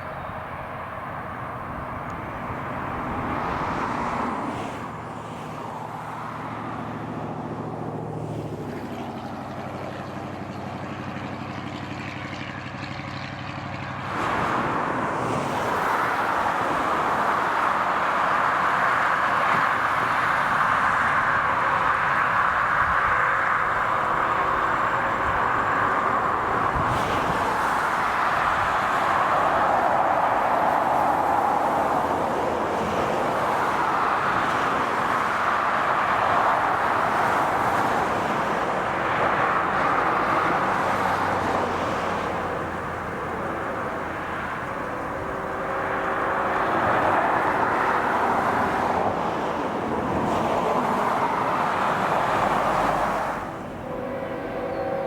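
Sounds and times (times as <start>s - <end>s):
freight train cars rolling on rails: 8.7s - 55.0s.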